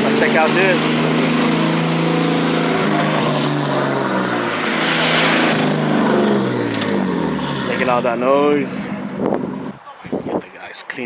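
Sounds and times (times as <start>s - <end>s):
engine revving: 0.0s - 10.4s.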